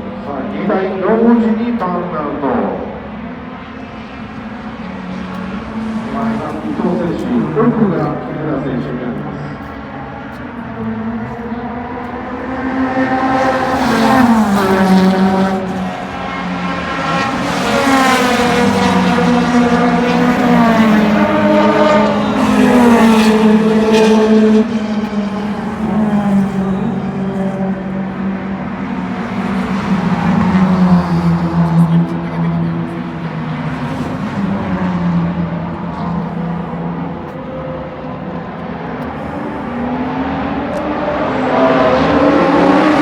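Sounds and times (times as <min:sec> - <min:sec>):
race car engines revving: 0:00.0 - 0:43.0.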